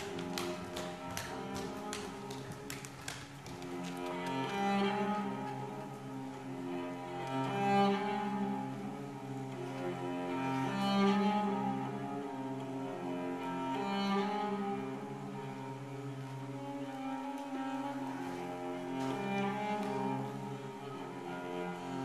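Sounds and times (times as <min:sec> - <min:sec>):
bowed string music with cello: 0:00.0 - 0:22.0.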